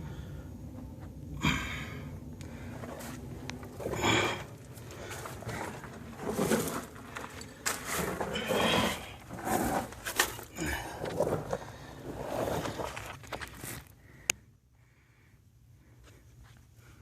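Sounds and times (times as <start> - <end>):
scuffs and rustles in dirt tunnel: 0.0 - 17.0.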